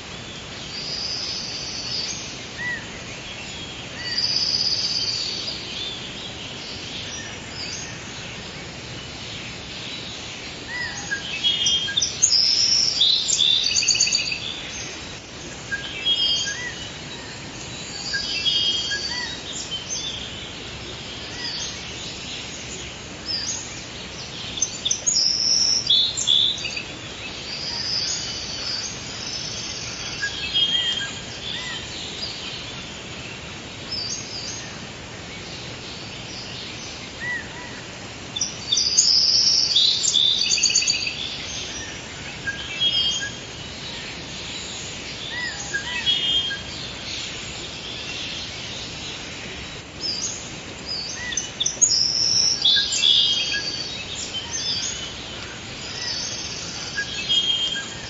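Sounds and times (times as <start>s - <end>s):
birds chirping and trilling: 0.0s - 58.0s
steady background hiss: 0.0s - 58.0s.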